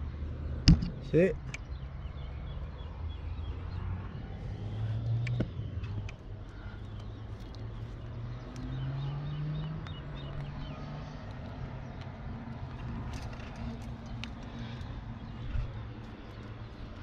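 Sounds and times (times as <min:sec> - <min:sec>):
low engine hum: 0:00.0 - 0:17.0
bird chirping: 0:01.1 - 0:04.0, 0:04.7 - 0:17.0.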